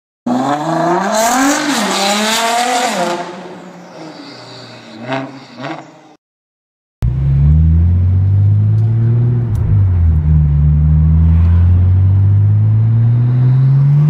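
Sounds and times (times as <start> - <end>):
car engine revving: 0.3 - 5.9, 7.0 - 14.0.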